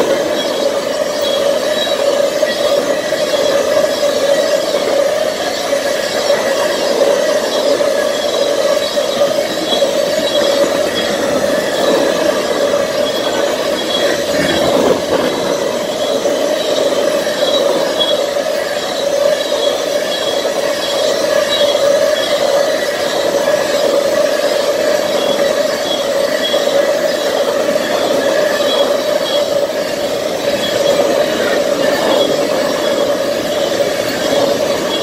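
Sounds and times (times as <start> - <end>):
high wheel squeal: 0.0 - 35.0
train wheels rumbling on rail: 0.0 - 35.0.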